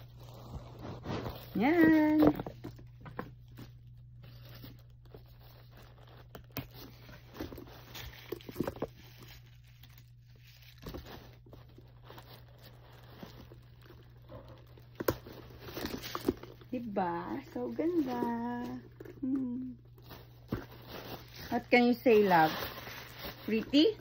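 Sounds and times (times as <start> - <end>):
packing paper crinkling: 0.0 - 24.0.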